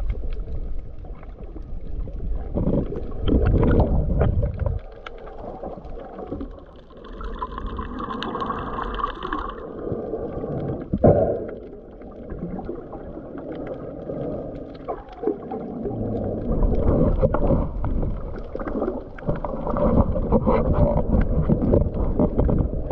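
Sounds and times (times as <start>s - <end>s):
underwater sloshing and gurgling: 0.0s - 22.9s.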